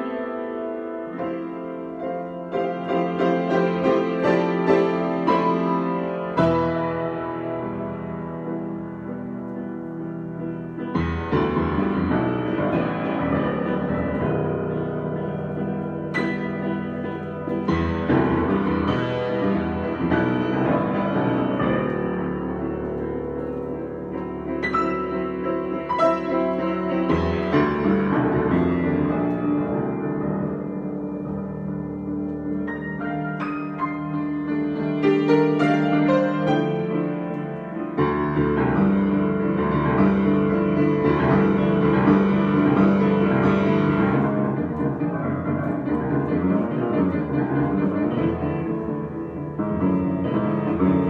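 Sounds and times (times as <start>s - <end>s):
solo piano improvisation: 0.0s - 51.0s.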